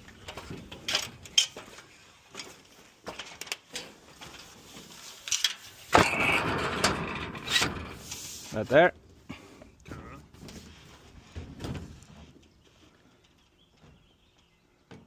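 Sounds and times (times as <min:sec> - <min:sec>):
knocks and clatter of building materials: 0:00.0 - 0:15.0.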